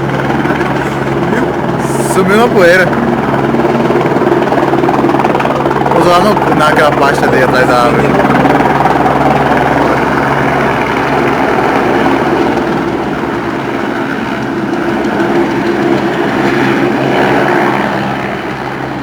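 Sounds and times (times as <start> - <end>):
helicopter rotor and turbine drone: 0.0 - 19.0.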